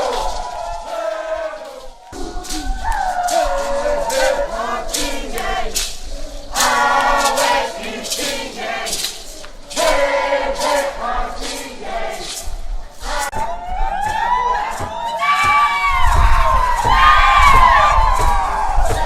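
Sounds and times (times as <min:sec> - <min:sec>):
group chanting: 0:00.0 - 0:19.0
sharp percussive strikes: 0:00.0 - 0:19.0.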